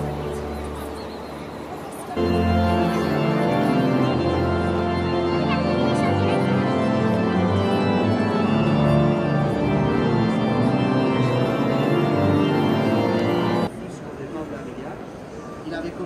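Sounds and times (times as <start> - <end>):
organ chords: 0.0 - 13.7.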